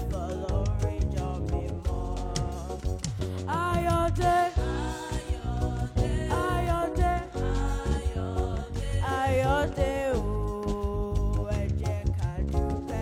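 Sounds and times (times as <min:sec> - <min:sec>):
instrumental backing with bass: 0:00.0 - 0:13.0
person singing: 0:00.0 - 0:13.0.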